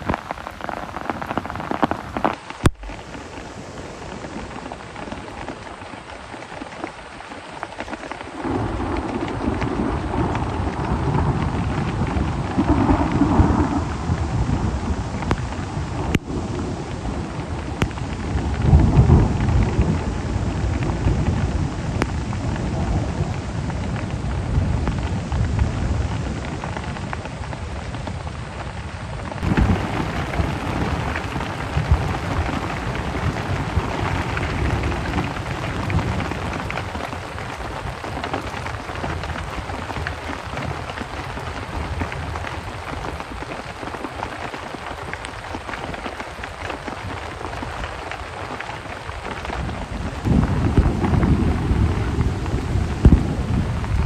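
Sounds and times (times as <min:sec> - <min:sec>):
heavy rain: 0:00.0 - 0:54.0
rain on a tarp roof: 0:00.0 - 0:54.0
low rumble of thunder: 0:08.3 - 0:48.3, 0:48.9 - 0:54.0.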